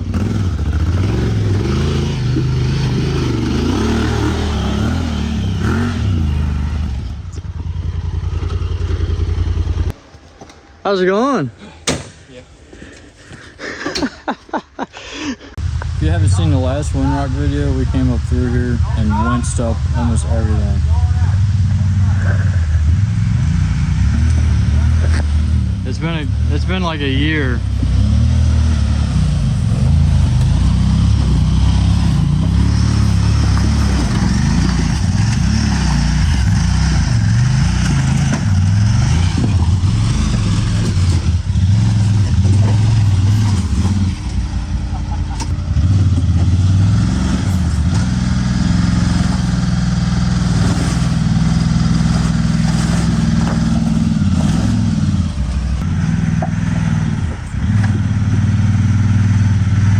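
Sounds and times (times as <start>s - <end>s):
vehicle engine at low revs: 0.0s - 10.1s, 15.5s - 59.9s.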